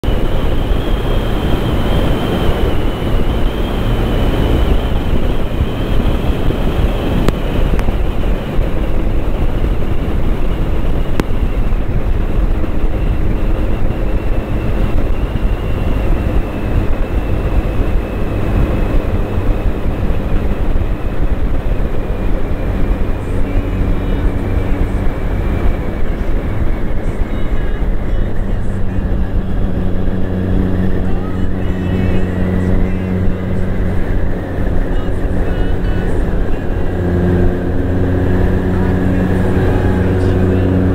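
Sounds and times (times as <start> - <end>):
motorcycle engine droning: 0.0 - 40.9
thin high whine: 0.0 - 40.9
wind buffeting camera: 0.0 - 40.9.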